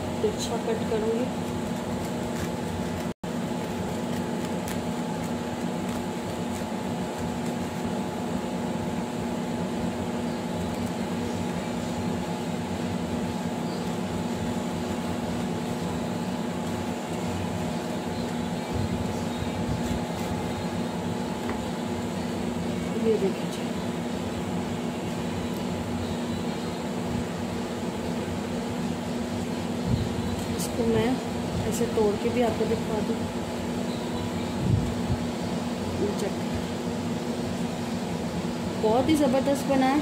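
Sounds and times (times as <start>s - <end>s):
machine hum: 0.0s - 40.0s.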